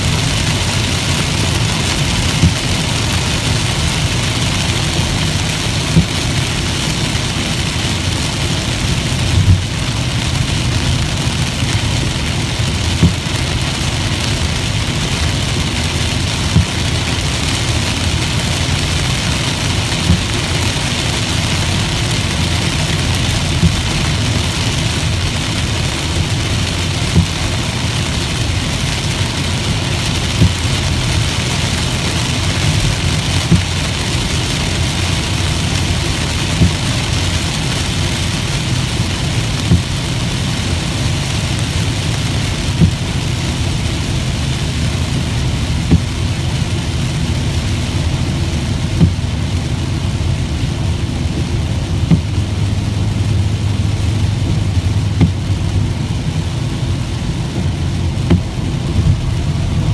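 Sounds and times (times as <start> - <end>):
heavy rain on a car: 0.0 - 59.9
low engine and road rumble: 0.0 - 59.9
tyres on wet road: 0.0 - 59.9.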